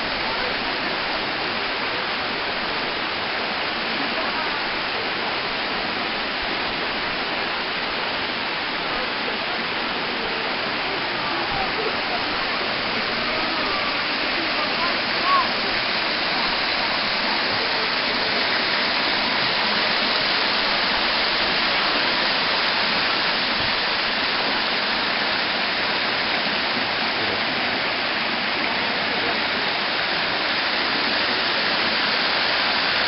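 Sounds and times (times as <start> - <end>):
waterfall splashing: 0.0 - 33.0.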